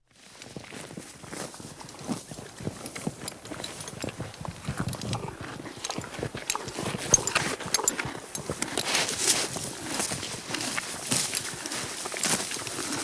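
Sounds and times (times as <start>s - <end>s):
horse chewing feed: 0.2s - 13.0s.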